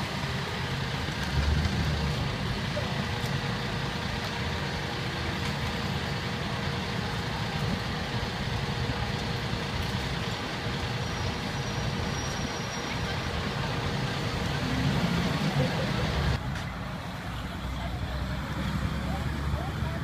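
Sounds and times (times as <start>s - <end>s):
diesel coach idling: 0.0s - 20.0s.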